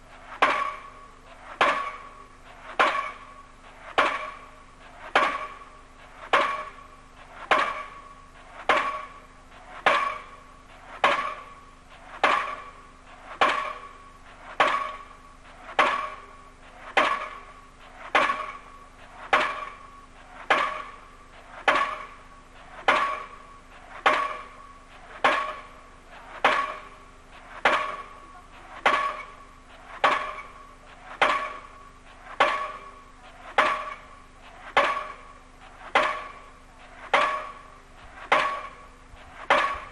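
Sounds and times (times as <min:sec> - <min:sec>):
pile hammer metallic blows: 0:00.1 - 0:39.9.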